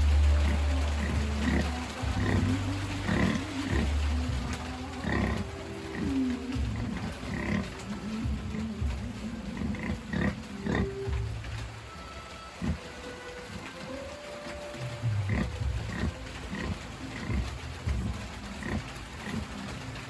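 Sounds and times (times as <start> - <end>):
pigs grunting: 0.0 - 20.0.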